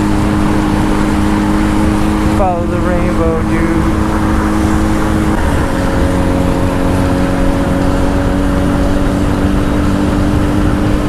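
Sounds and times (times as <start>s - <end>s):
motorcycle engine cruising: 0.0s - 11.0s
wind noise on microphone: 0.0s - 11.0s.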